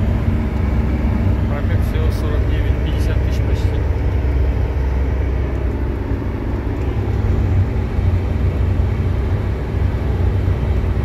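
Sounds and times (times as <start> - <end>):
diesel engine drone: 0.0 - 11.0
tyre and road noise: 0.0 - 11.0.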